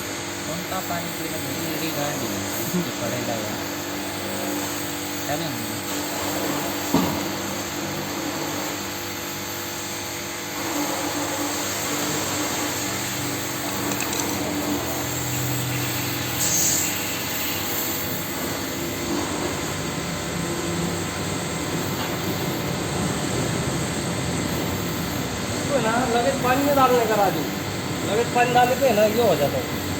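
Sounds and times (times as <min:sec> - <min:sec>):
blowtorch flame hissing: 0:00.0 - 0:29.9.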